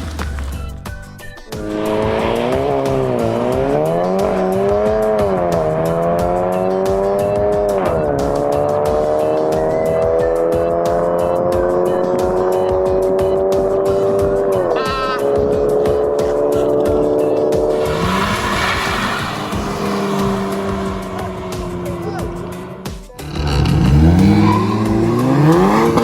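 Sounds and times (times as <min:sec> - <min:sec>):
car engine revving high: 0:01.5 - 0:26.0.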